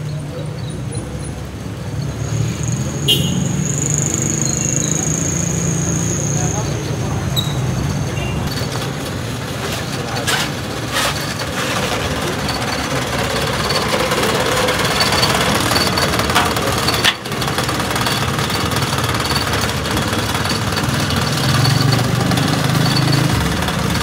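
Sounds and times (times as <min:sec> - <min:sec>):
small engine rattling: 0:00.2 - 0:24.0.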